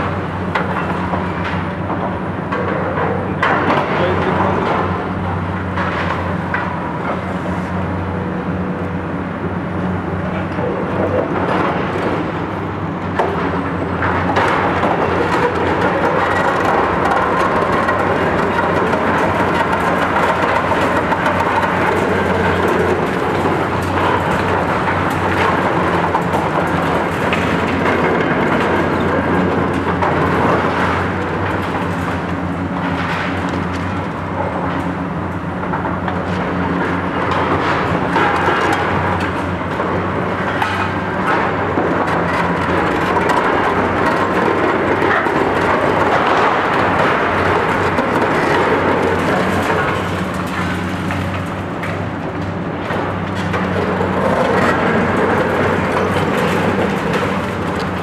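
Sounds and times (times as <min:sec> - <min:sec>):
diesel excavator engines running: 0:00.0 - 0:58.0
concrete and steel crunching: 0:10.3 - 0:58.0.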